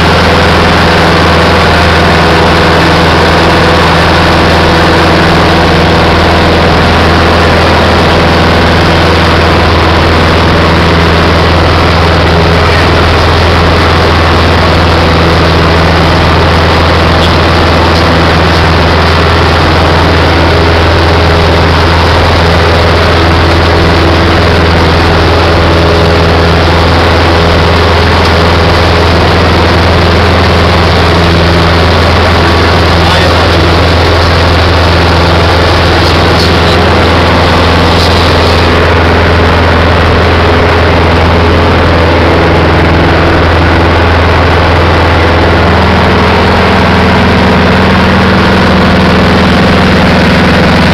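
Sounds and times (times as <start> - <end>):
light aircraft engine and propeller drone: 0.0 - 50.9.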